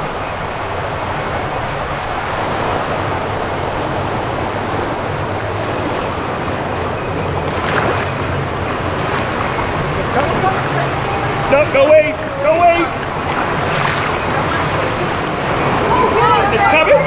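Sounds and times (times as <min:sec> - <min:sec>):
river water rushing and sloshing: 0:00.0 - 0:17.0
wind on microphone: 0:00.0 - 0:17.0.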